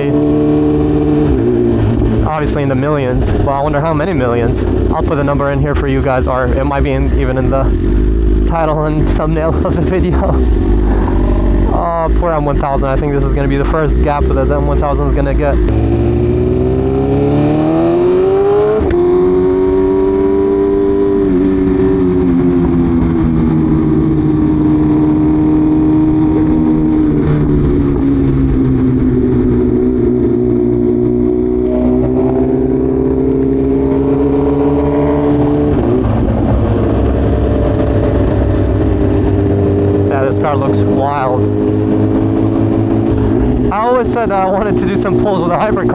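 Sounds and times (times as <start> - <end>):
motorcycle engine at high revs: 0.0 - 45.9.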